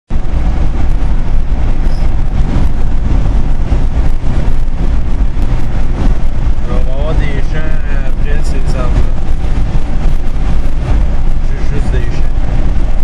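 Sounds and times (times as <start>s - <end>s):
car driving on wet road: 0.1s - 13.0s.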